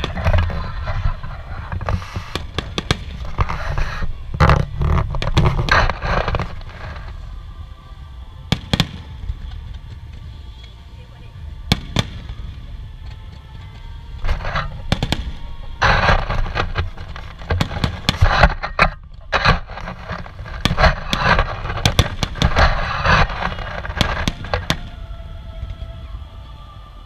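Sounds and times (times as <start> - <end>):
fireworks bangs and crackling: 0.0 - 7.4, 8.4 - 10.5, 11.5 - 13.4, 14.1 - 25.9.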